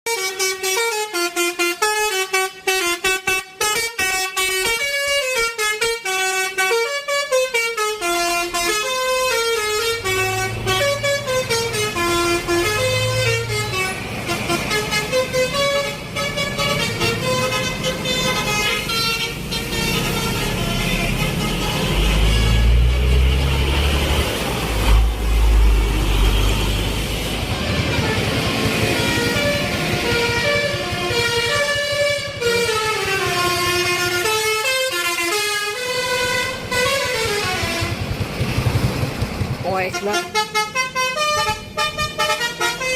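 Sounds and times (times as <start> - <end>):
multi-note horn playing tune: 0.1 - 38.1, 39.9 - 42.9
heavy vehicle engine rumble: 8.0 - 42.9.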